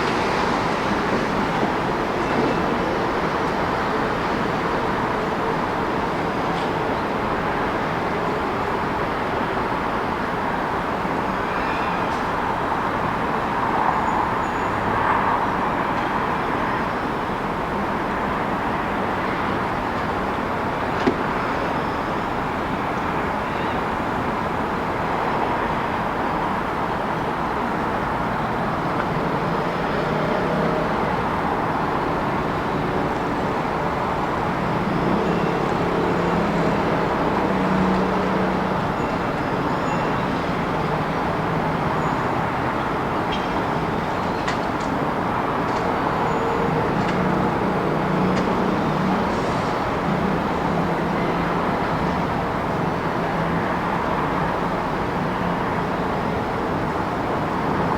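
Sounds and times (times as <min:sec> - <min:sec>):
road traffic hum: 0:00.0 - 0:57.9.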